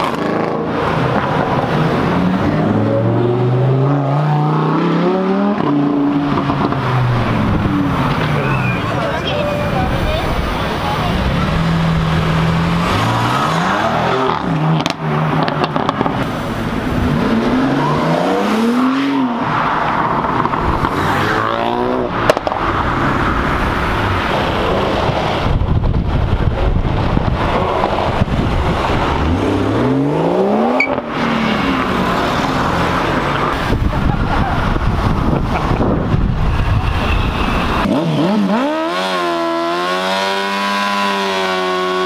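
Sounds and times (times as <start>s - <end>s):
car engines revving: 0.0s - 42.0s
road noise: 0.0s - 42.0s.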